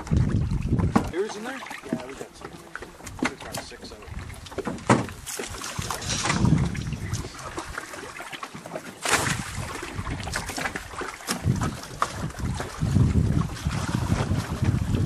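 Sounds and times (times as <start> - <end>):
wind on microphone: 0.0 - 1.2, 3.0 - 8.1, 9.1 - 15.0
water lapping around boat: 0.0 - 15.0.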